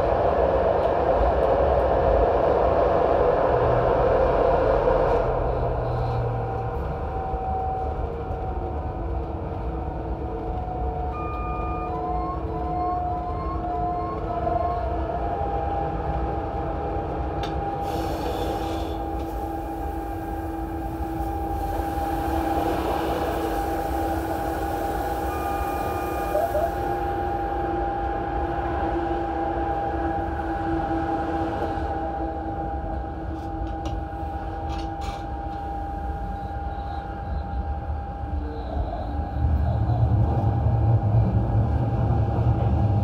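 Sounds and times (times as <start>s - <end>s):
train rumble: 0.0s - 43.0s
two-tone whine: 0.0s - 43.0s.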